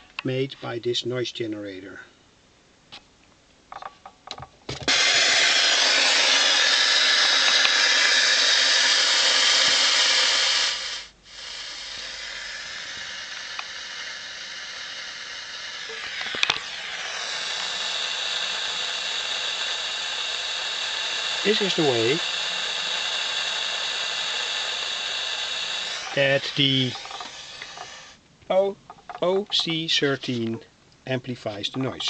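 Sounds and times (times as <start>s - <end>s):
hiss through loudspeaker: 4.9s - 32.0s.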